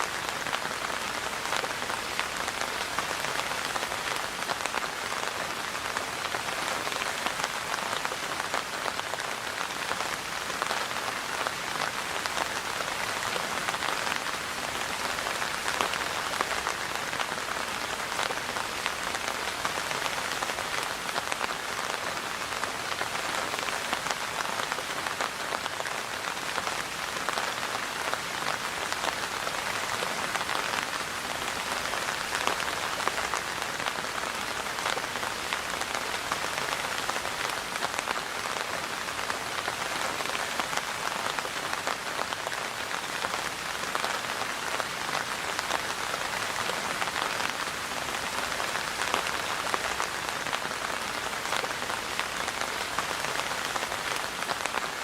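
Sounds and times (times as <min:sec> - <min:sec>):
rain pattering on surfaces: 0:00.0 - 0:55.0.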